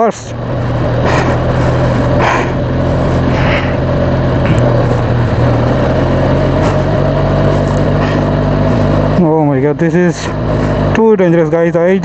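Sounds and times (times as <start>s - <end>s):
motorcycle engine running: 0.0s - 12.0s
traffic rushing: 0.0s - 12.0s
wind: 0.0s - 12.0s.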